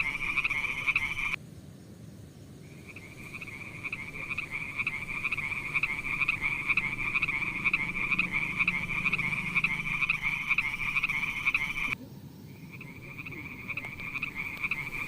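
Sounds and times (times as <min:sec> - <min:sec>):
frog croaking rapidly: 0:00.0 - 0:01.4, 0:02.7 - 0:15.0.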